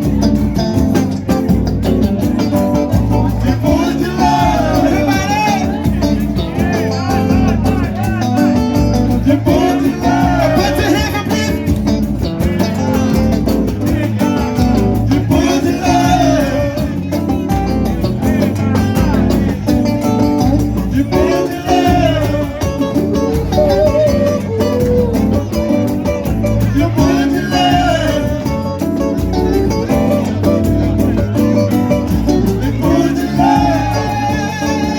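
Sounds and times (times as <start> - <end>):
guitar: 0.0 - 34.9
person singing: 0.0 - 34.9
steady drum beat: 0.0 - 34.9.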